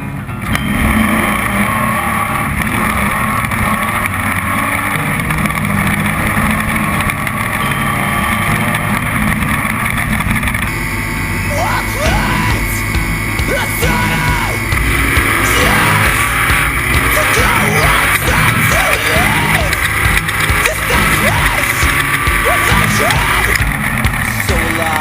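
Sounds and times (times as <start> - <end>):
truck engine running hard: 0.0 - 25.0.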